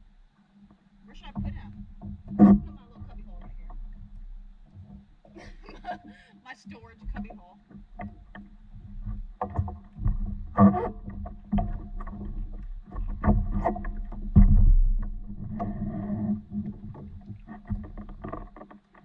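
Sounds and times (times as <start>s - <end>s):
steady low hum: 0.0s - 18.6s
knocks and clatters on paddleboard: 0.0s - 19.0s
water sloshing: 0.0s - 19.0s.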